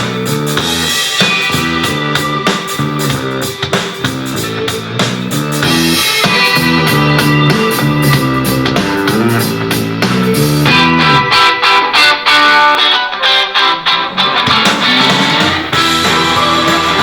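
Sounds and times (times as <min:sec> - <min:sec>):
rock music through speaker: 0:00.0 - 0:17.0.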